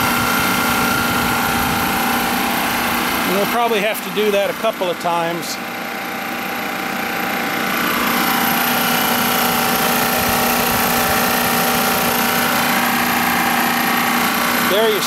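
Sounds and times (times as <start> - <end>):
refrigerant recovery machine humming: 0.0 - 15.0.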